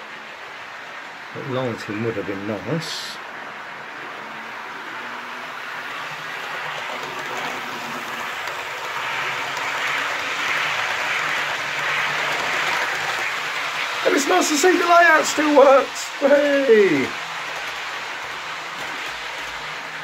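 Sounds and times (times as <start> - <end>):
model train wheels rushing on rails: 0.0 - 20.0.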